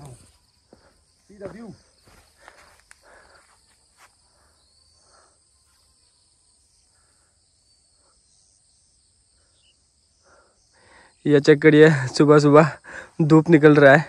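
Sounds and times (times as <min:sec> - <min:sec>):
high insect hum: 0:00.0 - 0:14.0.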